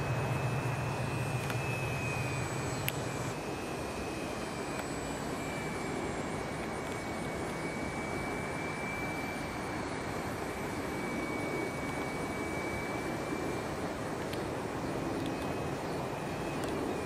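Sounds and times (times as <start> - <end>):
electric motor whine: 0.0 - 17.0
propeller and air noise: 0.0 - 17.0.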